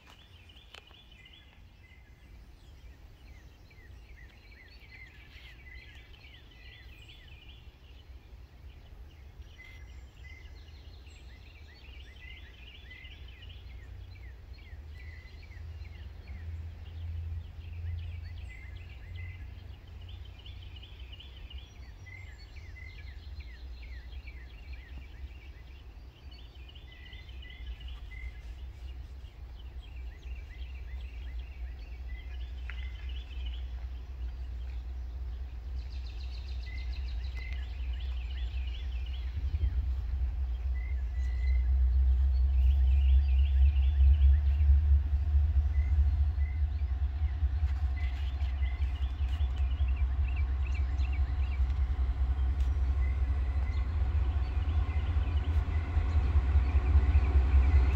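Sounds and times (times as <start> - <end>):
low rumble: 0.0 - 57.9
songbirds chirping and trilling: 0.0 - 57.9.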